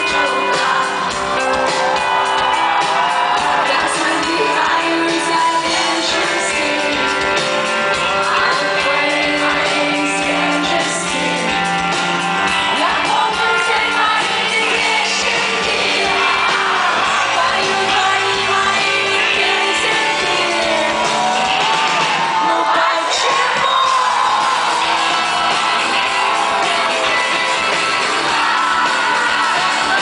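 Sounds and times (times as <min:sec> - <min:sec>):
woman singing lead vocal: 0:00.0 - 0:02.0, 0:02.7 - 0:30.0
fans shouting and whooping: 0:00.0 - 0:30.0
live rock band playing: 0:00.0 - 0:30.0.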